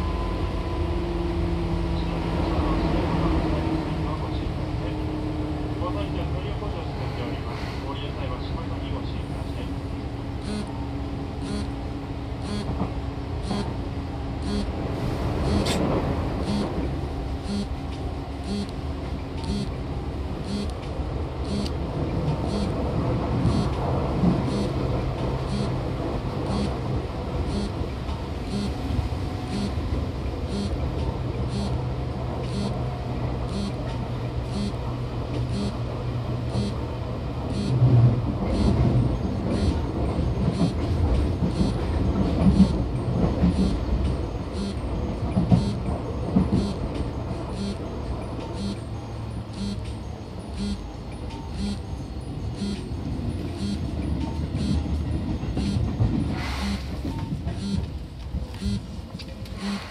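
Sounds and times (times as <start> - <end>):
train interior hum: 0.0 - 59.9.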